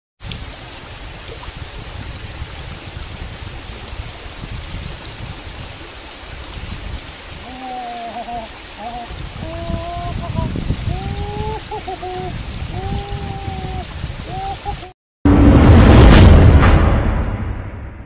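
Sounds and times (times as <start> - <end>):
water rushing over weir: 0.2 - 15.0.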